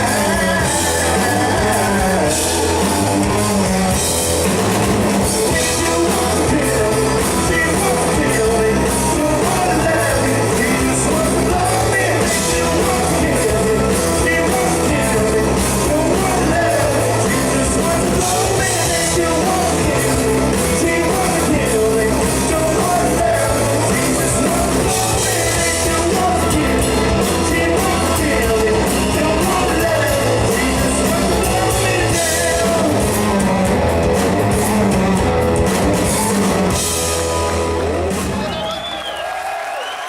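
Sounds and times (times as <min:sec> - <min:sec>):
person singing: 0:00.0 - 0:04.2, 0:05.2 - 0:35.4
heavy bass line: 0:00.0 - 0:38.5
live rock music: 0:00.0 - 0:39.6
drums: 0:00.0 - 0:40.0.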